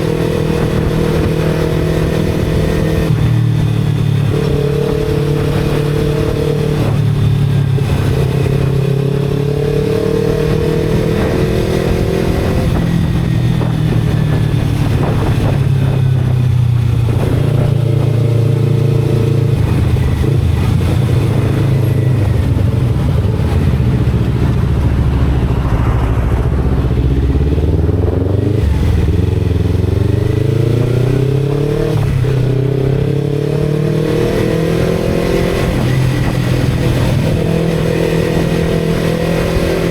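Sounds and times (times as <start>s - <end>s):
motorcycle engine accelerating: 0.0s - 39.9s
road and wind rumble: 0.0s - 39.9s.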